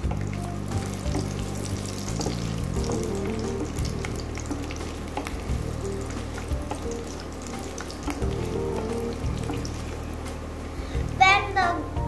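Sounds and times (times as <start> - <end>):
garlic frying in oil: 0.0 - 11.5
spatula stirring in pan: 0.1 - 11.0.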